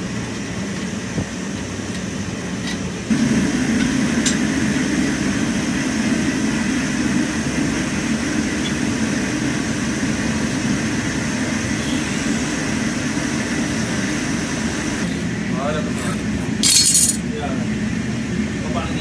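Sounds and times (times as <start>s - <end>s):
machinery drone with low hum: 0.0s - 19.0s.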